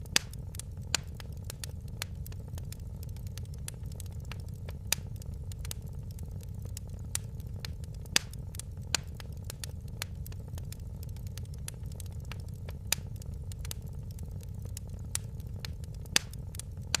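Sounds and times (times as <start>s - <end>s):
fire crackling and popping: 0.0s - 17.0s
fire rumbling: 0.0s - 17.0s.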